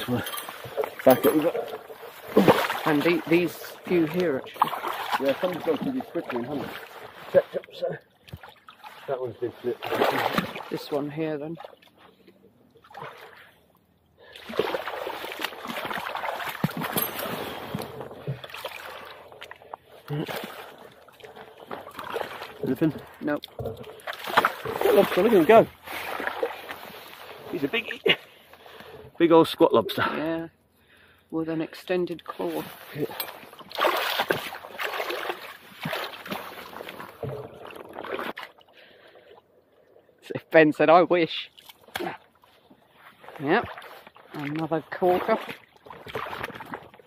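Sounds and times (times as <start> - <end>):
water splashing around boots: 0.0 - 28.9, 32.2 - 39.4, 41.4 - 47.0.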